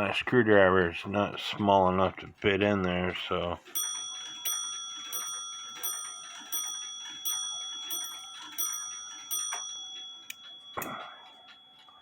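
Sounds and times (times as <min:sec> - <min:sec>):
clock movement ticking: 0:02.4 - 0:12.0.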